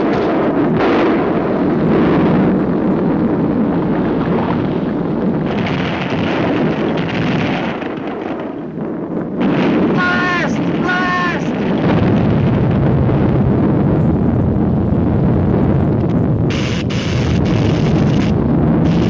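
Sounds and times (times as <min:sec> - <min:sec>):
volcanic eruption rumble: 0:00.0 - 0:19.0.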